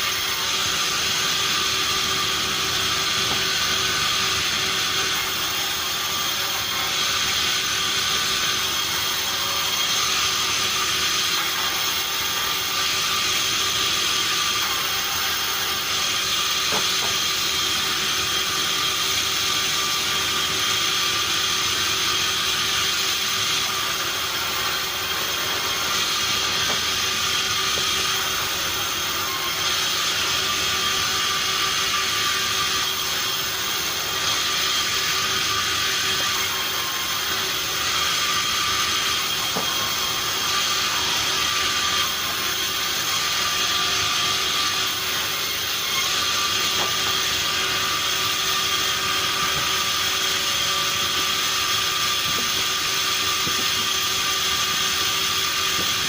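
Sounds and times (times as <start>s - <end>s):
sawmill machinery whine: 0.0s - 56.0s.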